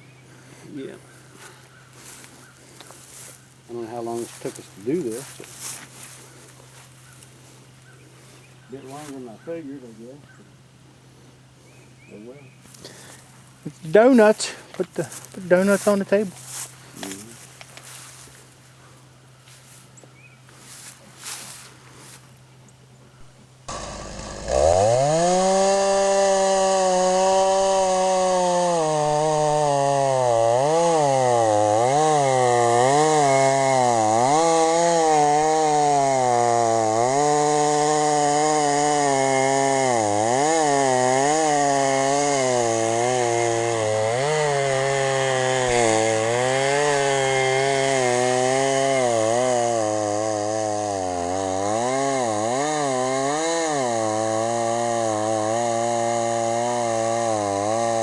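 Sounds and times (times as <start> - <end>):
chainsaw cutting log: 1.2 - 9.4, 12.7 - 18.6, 20.5 - 22.4, 23.7 - 58.0.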